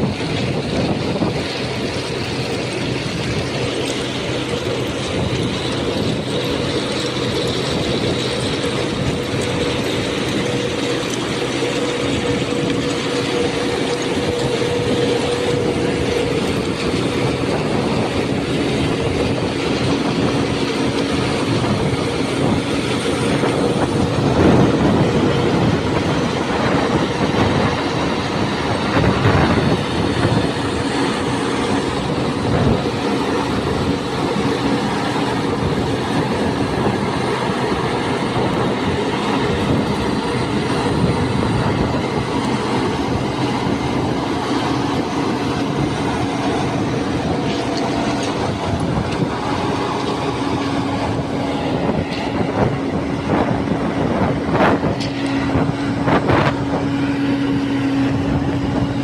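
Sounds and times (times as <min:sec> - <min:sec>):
track machine drone: 0:00.0 - 0:59.0.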